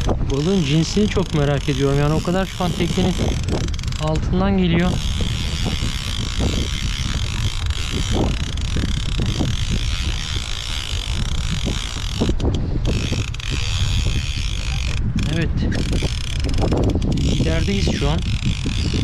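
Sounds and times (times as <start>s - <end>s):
fishing reel winding: 0.0s - 19.0s
wind noise on microphone: 0.0s - 19.0s.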